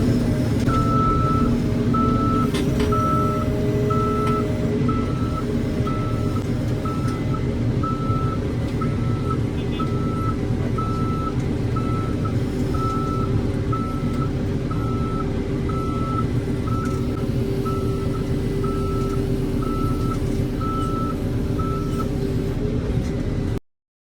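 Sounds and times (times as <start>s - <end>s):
diesel engine running: 0.0s - 23.6s
reversing alarm beeping: 0.4s - 22.2s.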